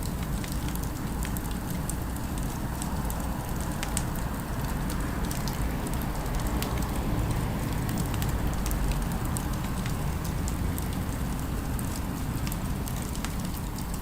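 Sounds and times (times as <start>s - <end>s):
faint city background: 0.0s - 14.0s
fire crackling and popping: 0.0s - 14.0s
low fire rumble: 0.0s - 14.0s.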